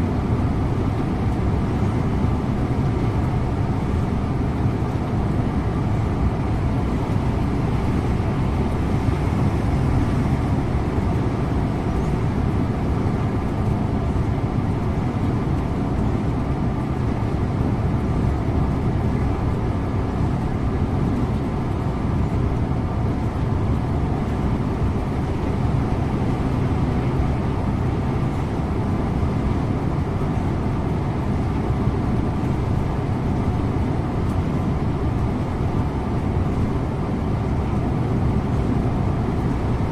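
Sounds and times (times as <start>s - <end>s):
coach engine running: 0.0s - 39.9s
road and tyre rumble: 0.0s - 39.9s.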